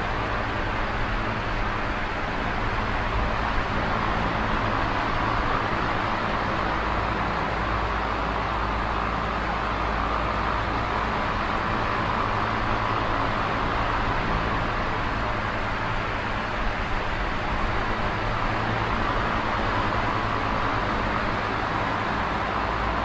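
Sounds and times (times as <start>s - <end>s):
electric fan air rushing: 0.0s - 23.0s
low even fan hum: 0.0s - 23.0s.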